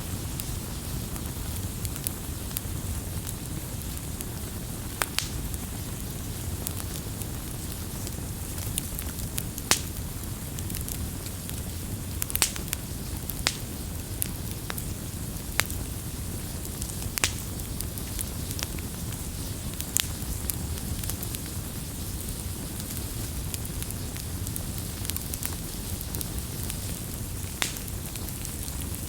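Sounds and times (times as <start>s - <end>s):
campfire burning rush: 0.0s - 29.0s
campfire pops and snaps: 0.1s - 29.0s.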